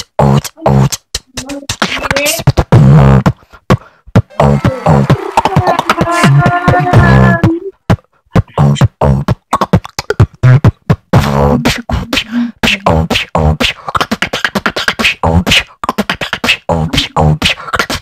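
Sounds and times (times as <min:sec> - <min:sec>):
person beatboxing: 0:00.0 - 0:18.0.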